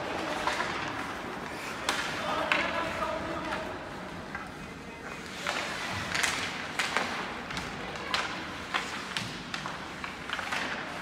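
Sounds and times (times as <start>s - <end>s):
arena background noise: 0.0s - 11.0s
hockey sticks and puck clacking: 0.0s - 11.0s
skate blades scraping ice: 0.0s - 11.0s.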